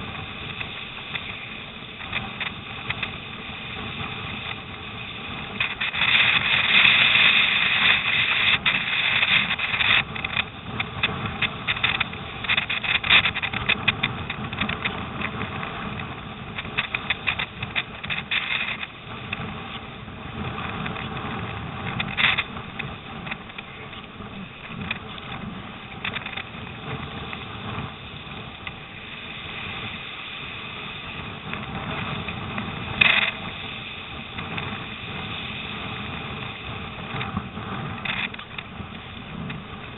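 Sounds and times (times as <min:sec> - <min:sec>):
water rushing and splashing off boat: 0:00.0 - 0:39.9
wind buffeting microphone: 0:00.0 - 0:39.9.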